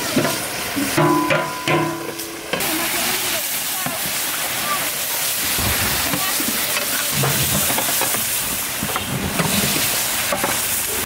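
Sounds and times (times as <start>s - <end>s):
chicken sizzling in hot oil: 0.0s - 11.0s
metal stirrers scraping a pan: 0.0s - 11.0s.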